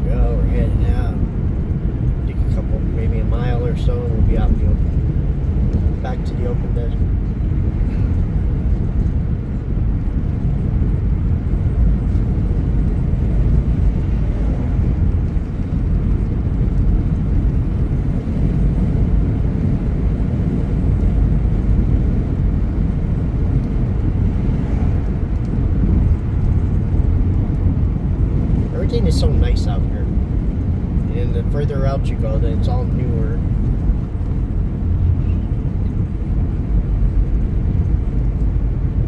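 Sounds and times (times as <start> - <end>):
car interior road and engine noise: 0.0 - 39.0.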